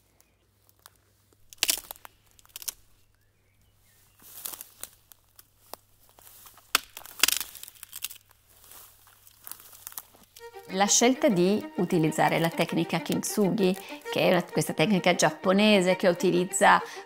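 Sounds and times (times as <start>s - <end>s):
crinkling and crackling: 0.0s - 14.9s.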